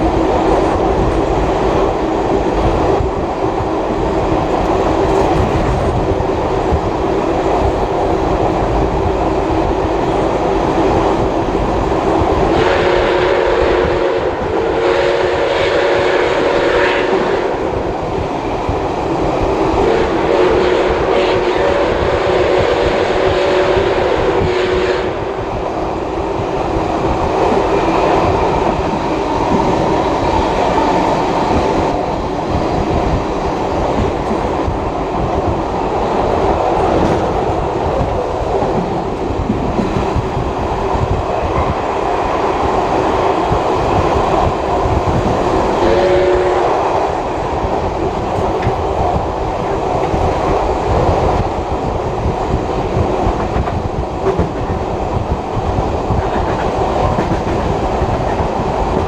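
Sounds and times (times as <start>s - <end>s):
train wheels clickety-clack on rails: 0.0s - 59.0s.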